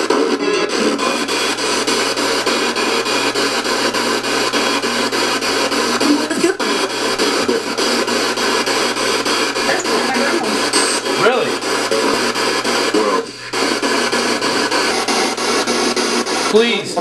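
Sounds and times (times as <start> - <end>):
pulsing radio static hiss: 0.0 - 17.0.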